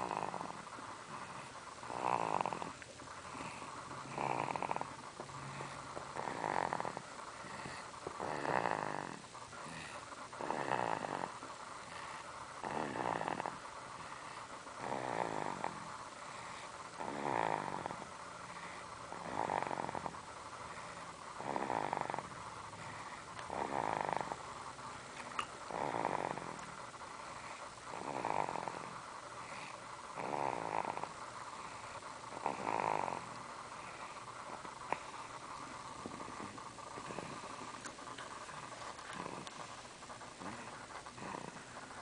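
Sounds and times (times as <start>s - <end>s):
slow regular snoring: 0.0s - 42.0s.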